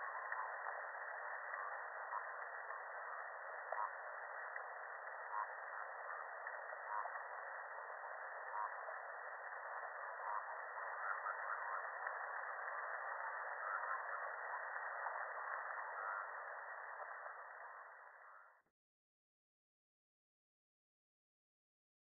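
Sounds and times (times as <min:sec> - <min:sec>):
sea noise hiss: 0:00.0 - 0:18.4.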